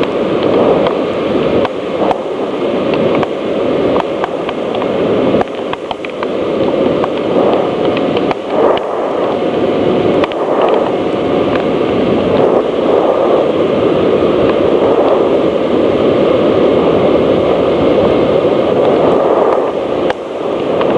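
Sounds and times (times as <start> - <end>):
water rushing: 0.0 - 20.9.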